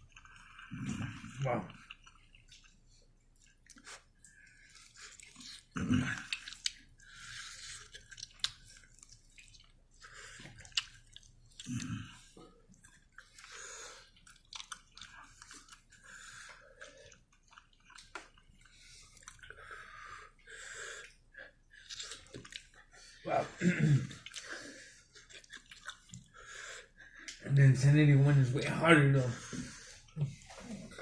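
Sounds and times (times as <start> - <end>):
person chewing chicken wings: 0.0 - 23.2, 24.1 - 27.4.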